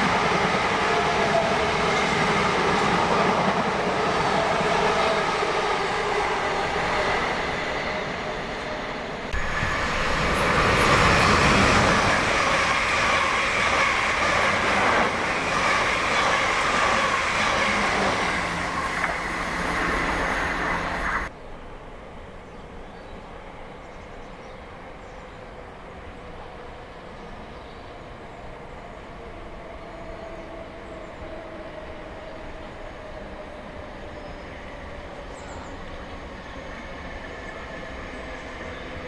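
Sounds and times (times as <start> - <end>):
passenger train passing: 0.0 - 39.0.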